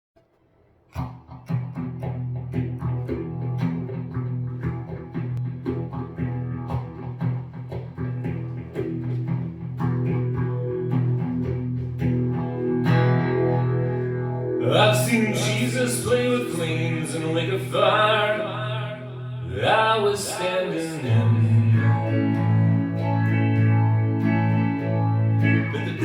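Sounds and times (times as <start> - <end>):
band playing guitar and bass: 1.0 - 19.7, 21.1 - 26.0.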